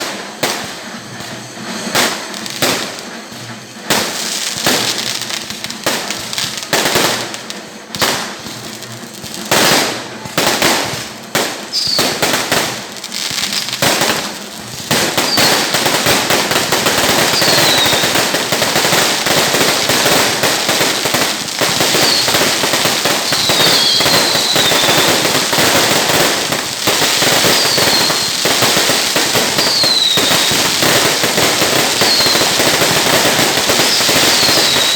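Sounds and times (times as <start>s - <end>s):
firework whistles falling: 0.0s - 34.9s
fireworks exploding: 0.0s - 34.9s.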